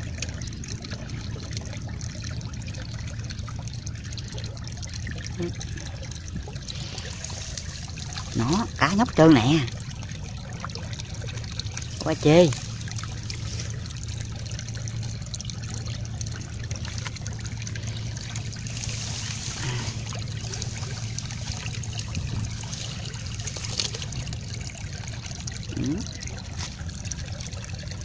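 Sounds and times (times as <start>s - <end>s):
water trickling: 0.0s - 28.0s.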